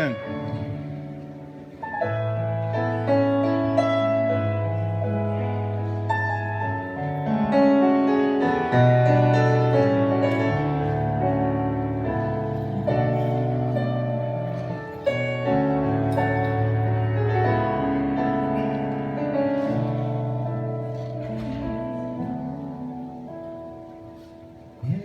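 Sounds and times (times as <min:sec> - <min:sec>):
keyboard playing held chords: 0:00.0 - 0:25.0.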